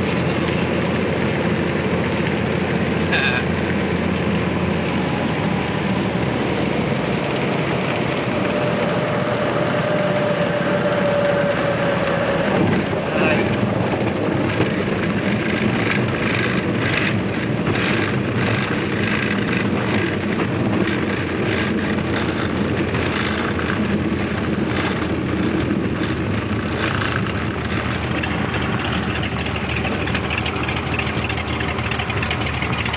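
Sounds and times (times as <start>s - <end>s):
aircraft piston engine and propeller: 0.0s - 32.9s.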